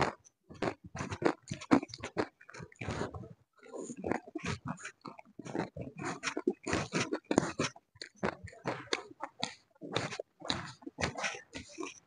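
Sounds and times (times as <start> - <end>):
chewing mouth noises: 0.0 - 12.0.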